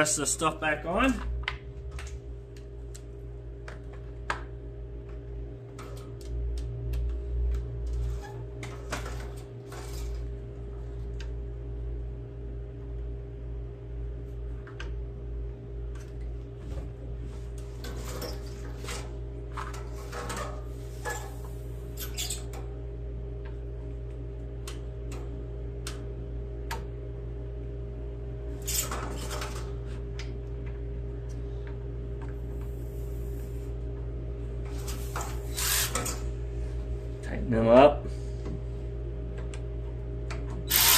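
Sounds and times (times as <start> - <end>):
steady background hum: 0.0 - 40.9.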